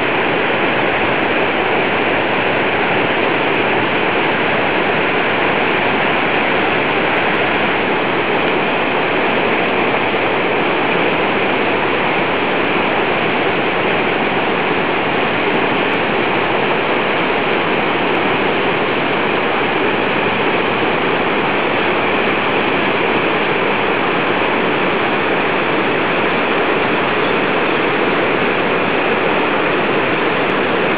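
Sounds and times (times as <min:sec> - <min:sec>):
mountain torrent roaring: 0:00.0 - 0:30.9.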